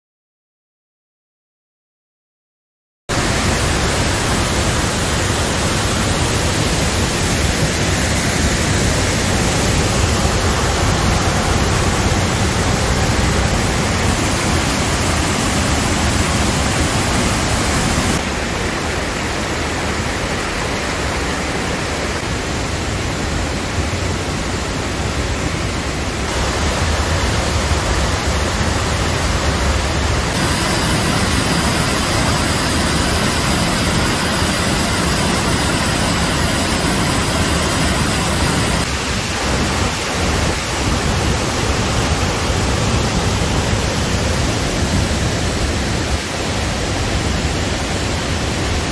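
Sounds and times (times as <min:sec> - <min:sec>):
waterfall rushing: 0:03.1 - 0:48.9.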